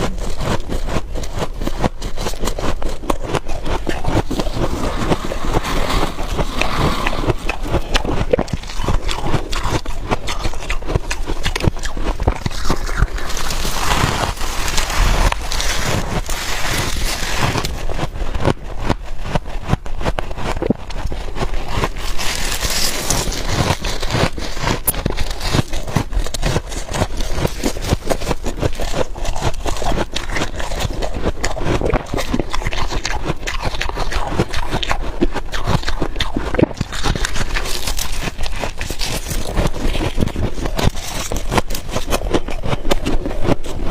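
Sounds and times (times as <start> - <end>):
frost crunching when chewed: 0.0 - 43.9.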